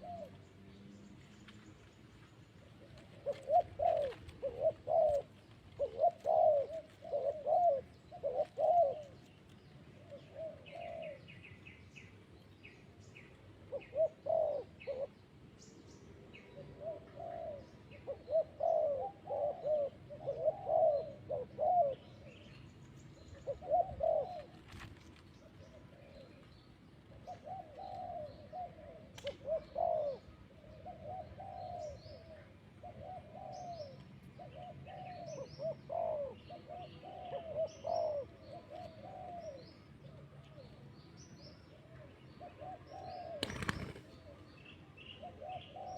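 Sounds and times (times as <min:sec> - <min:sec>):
doves cooing: 0:00.0 - 0:00.6, 0:02.6 - 0:11.6, 0:13.2 - 0:15.4, 0:16.2 - 0:45.9
small birds chirping: 0:00.0 - 0:45.9.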